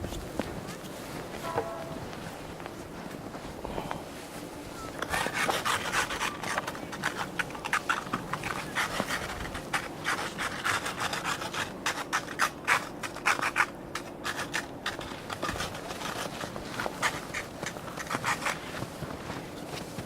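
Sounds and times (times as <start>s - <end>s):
snow crunching and scraping: 0.0s - 20.0s.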